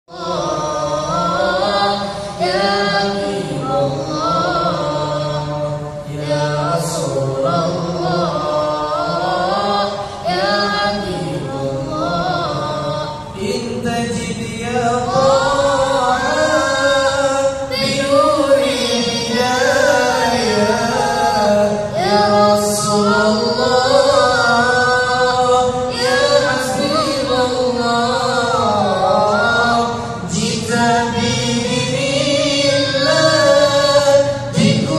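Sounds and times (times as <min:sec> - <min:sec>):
boy singing melismatic chant: 0:00.1 - 0:34.9.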